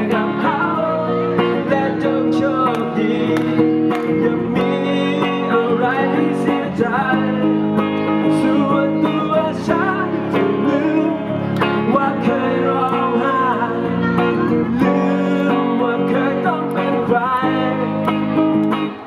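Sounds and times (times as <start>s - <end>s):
man singing: 0.0s - 18.5s
electric guitar strumming: 0.0s - 19.0s.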